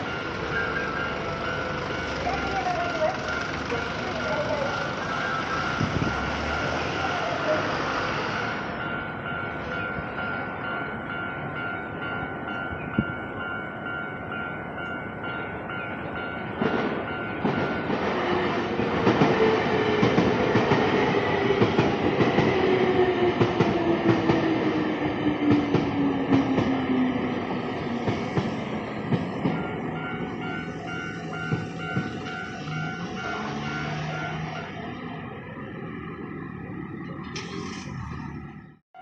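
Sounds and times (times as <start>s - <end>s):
level crossing warning bell: 0.0s - 37.4s.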